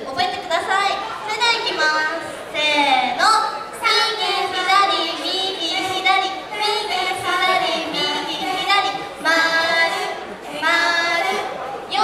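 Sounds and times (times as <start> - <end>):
women singing unaccompanied: 0.8 - 12.0.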